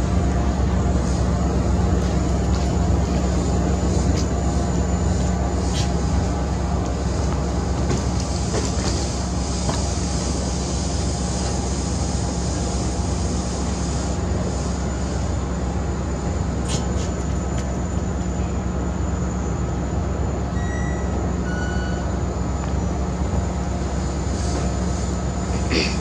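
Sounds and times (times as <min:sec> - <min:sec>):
train rumbling and humming: 0:00.0 - 0:26.0.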